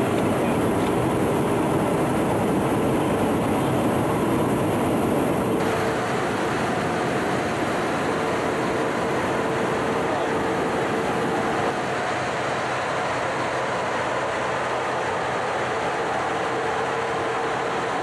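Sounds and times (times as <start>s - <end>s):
jet engine and airflow noise: 0.0s - 18.0s
steady low hum: 0.0s - 18.0s.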